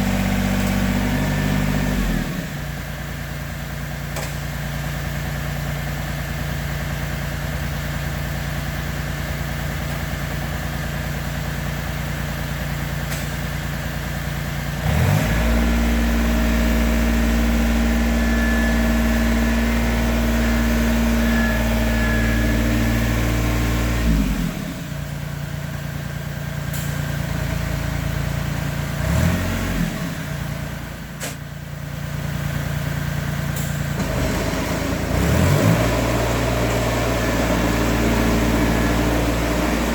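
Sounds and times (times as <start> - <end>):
diesel engine revving: 0.0 - 3.4, 4.1 - 39.9.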